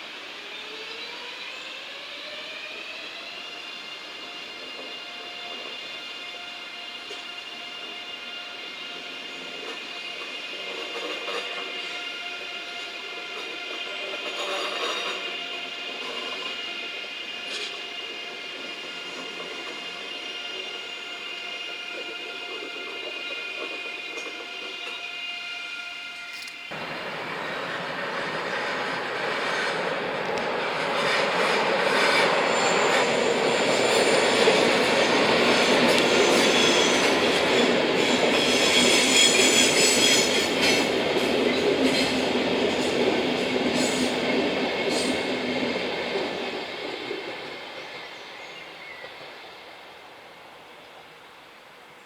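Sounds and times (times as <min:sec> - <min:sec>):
train passing: 0:00.0 - 0:52.0
high wheel squeal: 0:03.2 - 0:45.5.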